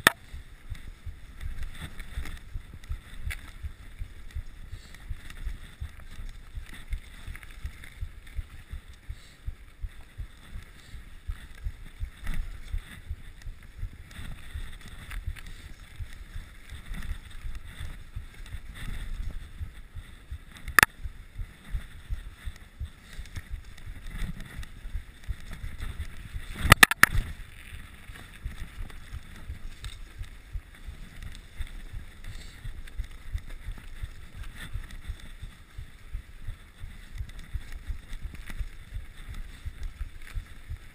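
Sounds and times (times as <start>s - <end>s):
bike jolts: 0.0s - 40.9s
bike tyres rumbling on trail: 0.0s - 40.9s
wind on microphone: 0.0s - 40.9s.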